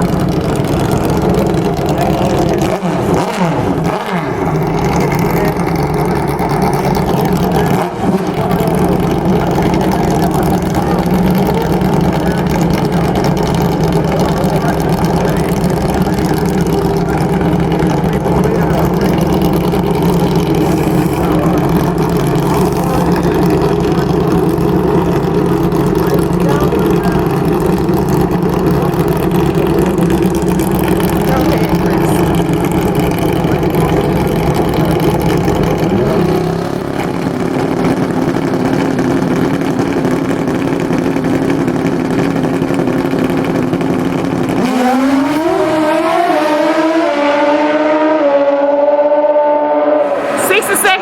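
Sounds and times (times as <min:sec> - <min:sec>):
motorcycle engine revving: 0:00.0 - 0:51.0
motorcycle engine running: 0:00.0 - 0:51.0.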